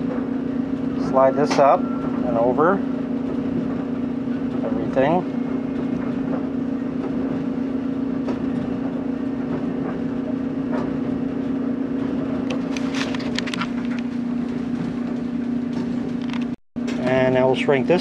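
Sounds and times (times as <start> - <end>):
electric motor and fan humming: 0.0 - 18.0.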